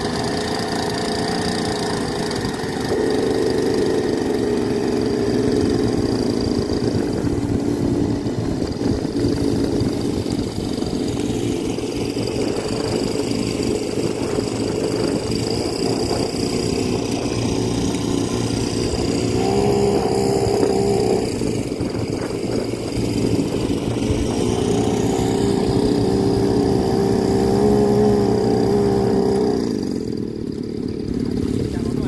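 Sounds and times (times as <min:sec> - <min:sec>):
water pump engine running: 0:00.0 - 0:32.0.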